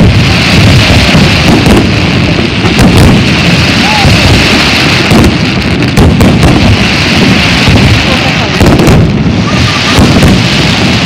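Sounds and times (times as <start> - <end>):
firework crackle: 0.0 - 11.0
firework shells bursting: 0.0 - 11.0.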